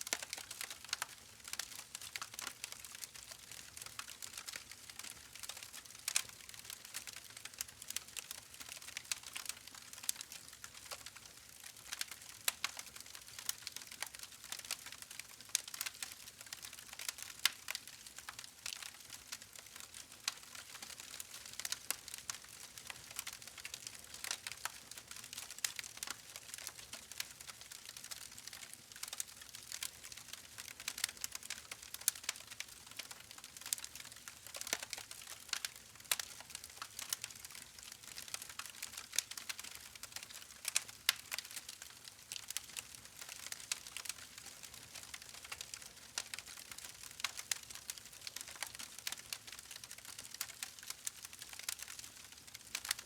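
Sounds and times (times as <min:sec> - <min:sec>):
campfire crackling and popping: 0:00.1 - 0:53.0.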